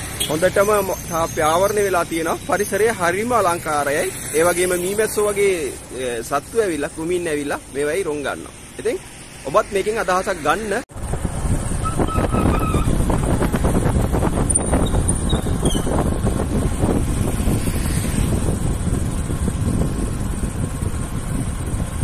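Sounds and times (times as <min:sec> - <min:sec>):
vehicle road and wind noise: 0:00.0 - 0:22.0.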